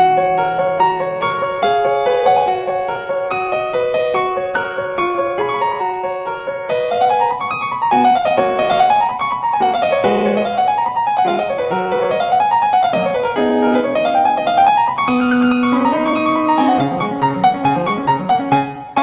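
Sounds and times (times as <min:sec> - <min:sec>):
piano music with quick runs: 0:00.0 - 0:19.0.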